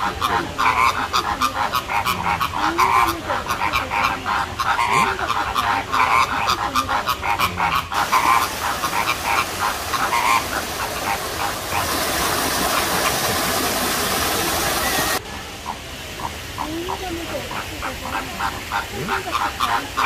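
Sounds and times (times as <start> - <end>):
flamingos honking: 0.0 - 20.0
steady rushing hiss: 0.0 - 20.0.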